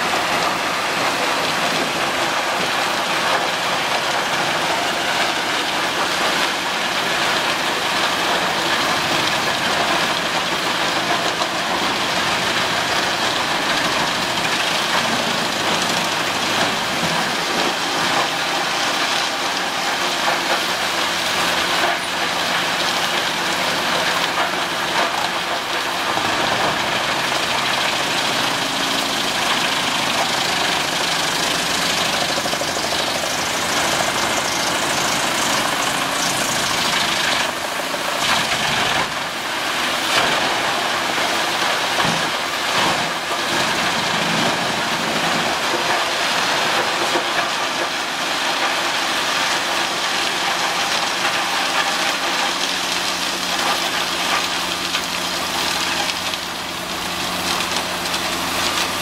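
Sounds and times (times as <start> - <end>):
drum chipper cutting wood: 0.0 - 59.0
engine running: 0.0 - 59.0.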